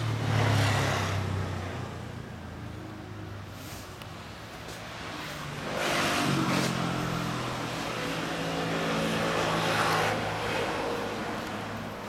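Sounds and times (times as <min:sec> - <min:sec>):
car passing: 0:00.0 - 0:12.0.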